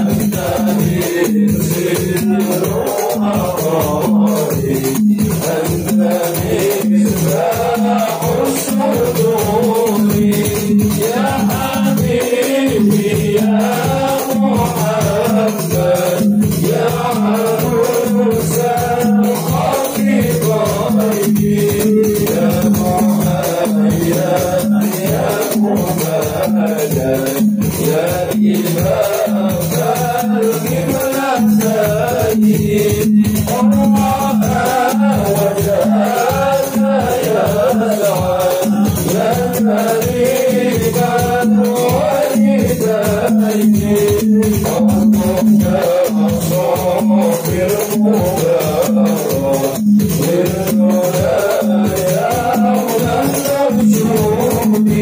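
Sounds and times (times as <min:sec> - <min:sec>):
frame drums beating: 0:00.0 - 0:55.0
men singing together: 0:00.0 - 0:55.0.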